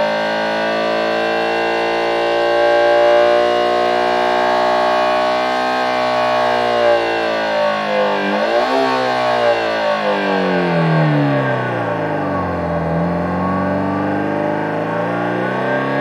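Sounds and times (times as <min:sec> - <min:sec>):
high-pitched synthesised engine note: 0:00.0 - 0:16.0.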